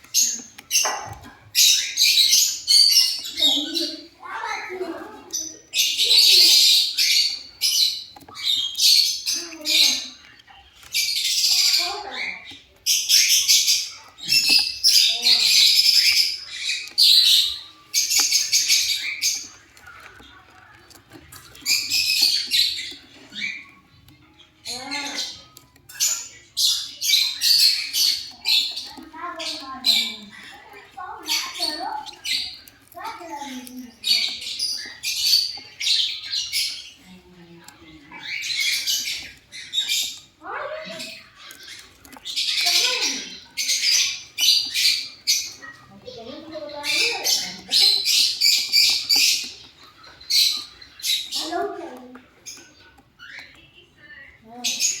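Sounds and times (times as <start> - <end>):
lovebird chattering: 0.0 - 55.0.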